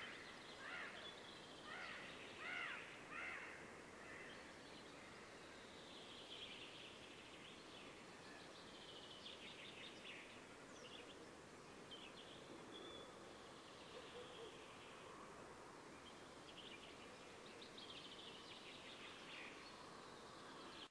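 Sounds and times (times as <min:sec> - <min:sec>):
background hiss: 0:00.0 - 0:20.9.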